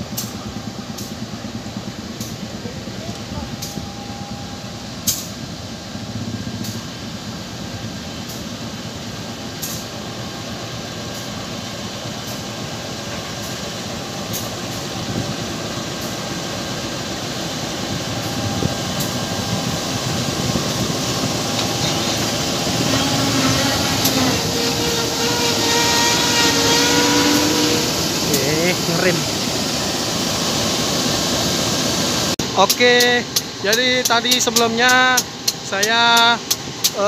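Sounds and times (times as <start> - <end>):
locomotive engine and wheels: 0.0 - 37.0.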